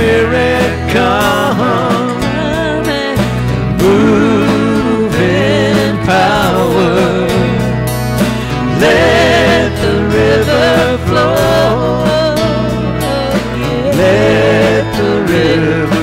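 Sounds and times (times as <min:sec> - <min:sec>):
woman singing: 0:00.0 - 0:07.7, 0:08.6 - 0:16.0
acoustic guitar: 0:00.0 - 0:16.0
bass: 0:00.0 - 0:16.0
drums: 0:00.0 - 0:16.0
keyboard: 0:00.0 - 0:16.0.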